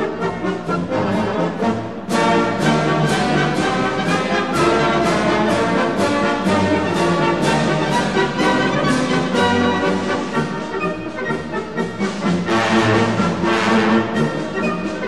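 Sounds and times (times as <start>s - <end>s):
orchestral music led by brass: 0.0s - 15.0s.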